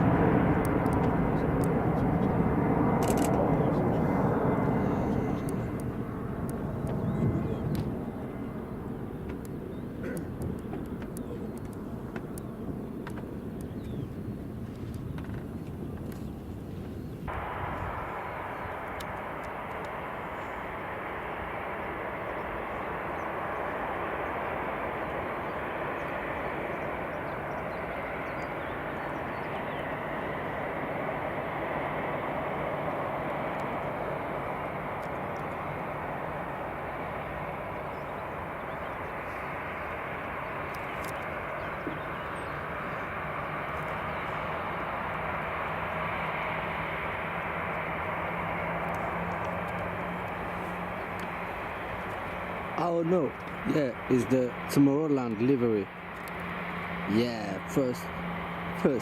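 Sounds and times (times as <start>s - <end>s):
jet engines rushing: 0.0s - 59.0s.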